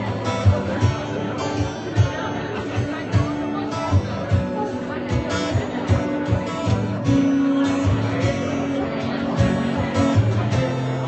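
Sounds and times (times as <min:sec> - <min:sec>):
acoustic guitar strumming: 0:00.0 - 0:11.0
low bass line: 0:00.0 - 0:11.0.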